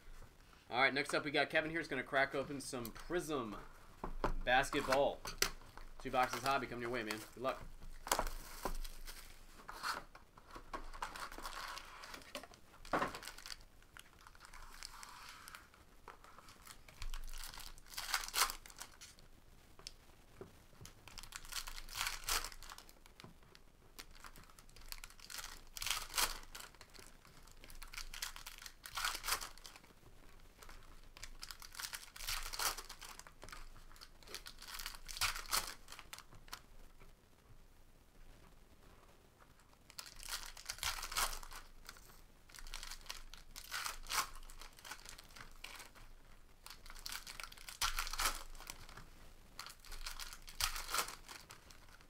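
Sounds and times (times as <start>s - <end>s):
plastic and foil packaging crinkling: 4.5s - 20.0s, 20.8s - 36.6s, 39.6s - 52.0s.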